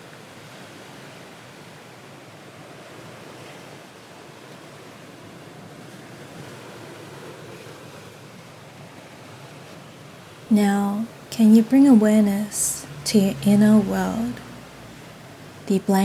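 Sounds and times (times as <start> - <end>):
ocean waves on shore: 0.0 - 16.0.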